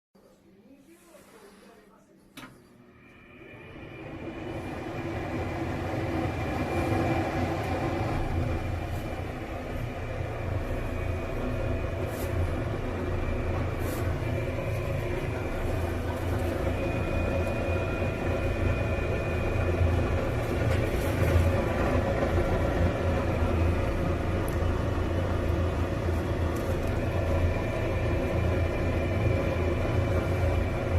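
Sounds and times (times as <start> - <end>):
exhaust fan rumbling with whine: 0.6 - 30.9.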